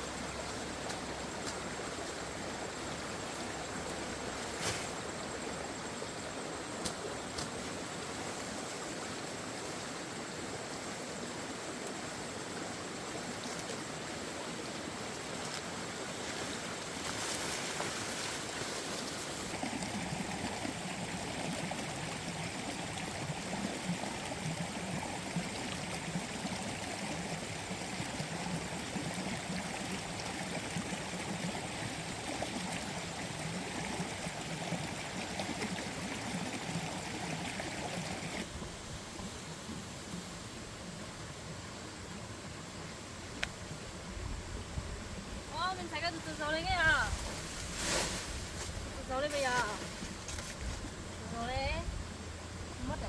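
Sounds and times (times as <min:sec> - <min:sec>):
running water: 0:06.0 - 0:53.0.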